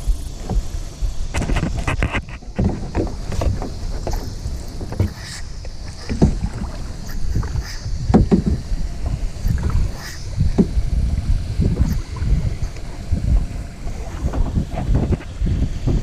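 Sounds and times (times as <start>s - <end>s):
wind rumble on microphone: 0.0s - 16.0s
paddle splashing in water: 0.3s - 16.0s.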